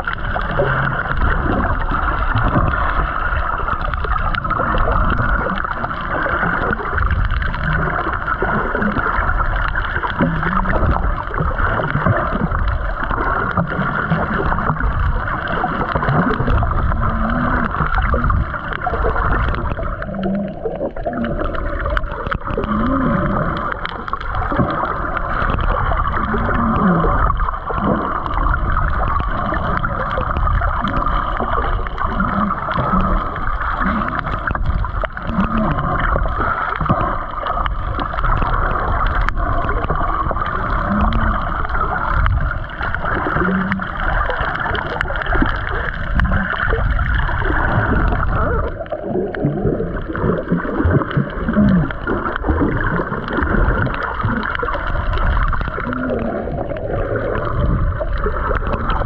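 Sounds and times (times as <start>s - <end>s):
gurgling water: 0.0s - 59.0s
underwater hiss and rumble: 0.0s - 59.0s.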